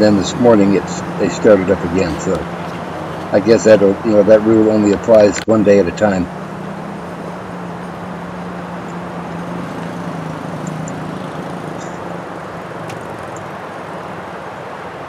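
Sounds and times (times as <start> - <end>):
continuous rushing noise: 0.0 - 15.0
small quad engines buzzing: 0.0 - 15.0.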